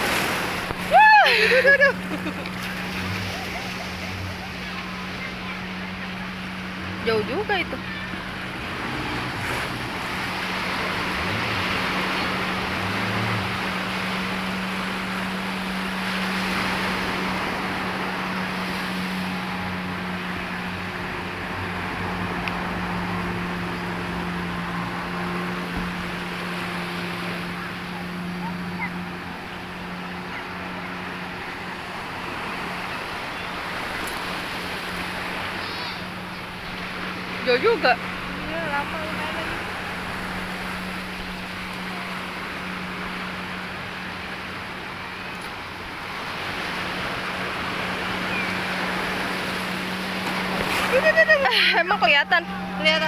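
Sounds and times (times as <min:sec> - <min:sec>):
motorboat engine droning: 0:00.0 - 0:53.0
waves washing: 0:00.0 - 0:53.0
wind: 0:00.0 - 0:53.0.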